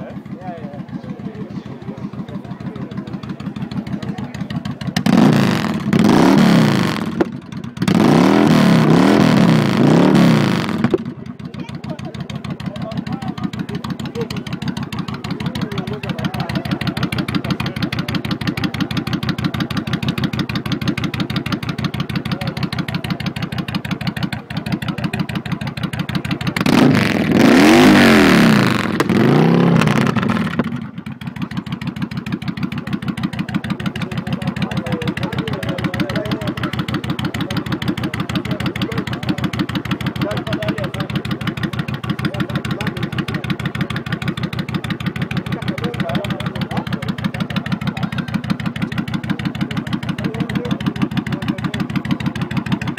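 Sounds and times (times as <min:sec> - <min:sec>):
motorcycle engine idling: 0:00.0 - 0:52.9
motorcycle engine revving: 0:00.0 - 0:52.9.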